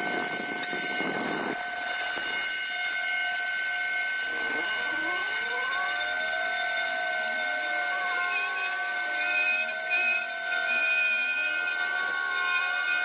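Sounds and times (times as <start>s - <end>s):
high spindle whine: 0.0s - 13.0s
stepper motors whirring: 0.0s - 13.0s.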